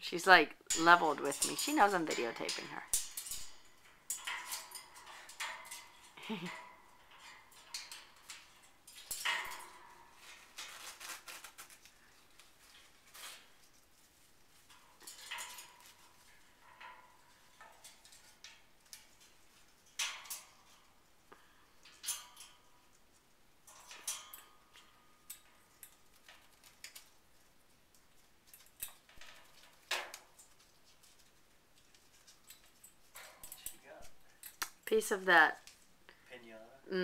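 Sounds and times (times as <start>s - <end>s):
metallic clicks and clinks: 0.6s - 13.8s, 14.7s - 35.8s.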